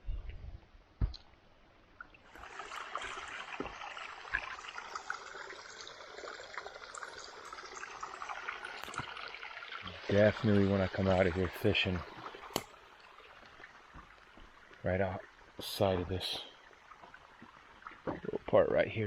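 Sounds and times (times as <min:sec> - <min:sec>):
stream of water trickling: 0:01.2 - 0:19.0.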